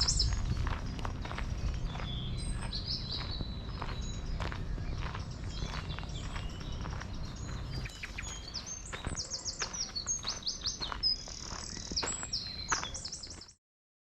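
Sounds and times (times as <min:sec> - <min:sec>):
footsteps on a path: 0:00.0 - 0:13.6
songbird chirping and trilling: 0:00.0 - 0:13.6.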